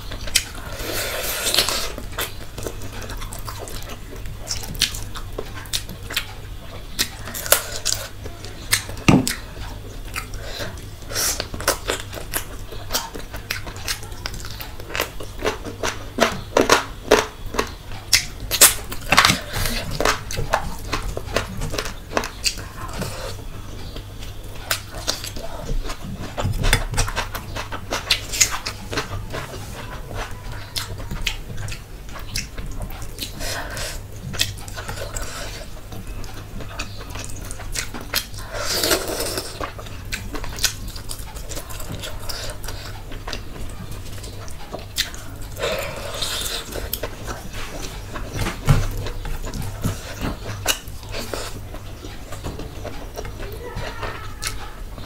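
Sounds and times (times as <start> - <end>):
wet chewing and mouth clicks: 0.0 - 55.0.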